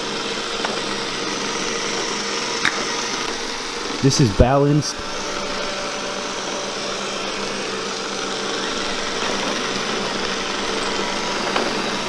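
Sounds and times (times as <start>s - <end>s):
robot vacuum running: 0.0s - 12.0s.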